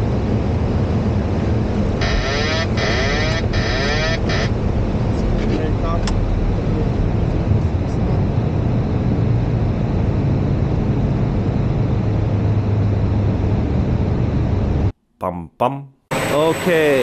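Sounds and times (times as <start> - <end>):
jet engines rumbling: 0.0 - 14.9
low hum: 0.0 - 14.9.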